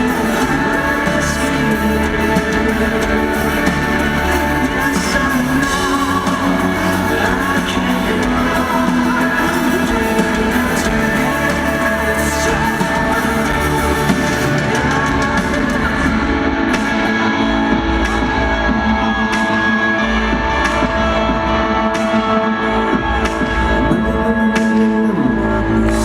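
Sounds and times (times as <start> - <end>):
electric guitar: 0.0 - 26.0
person singing: 0.0 - 26.0
rock band playing live: 0.0 - 26.0.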